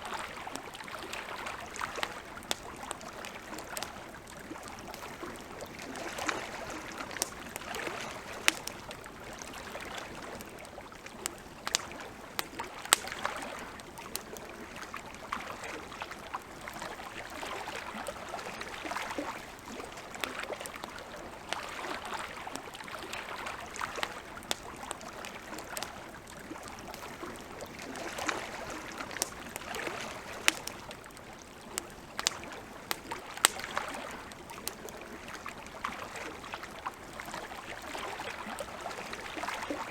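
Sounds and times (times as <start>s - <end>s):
campfire crackling: 0.0s - 39.9s
lake water lapping: 0.0s - 39.9s.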